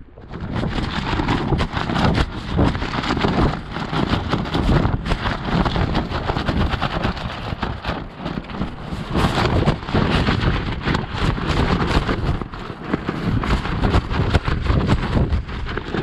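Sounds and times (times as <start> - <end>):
wind flapping a tarp: 0.0 - 16.0
wind rumbling on microphone: 0.0 - 16.0
rain tapping on a tarp: 0.2 - 16.0.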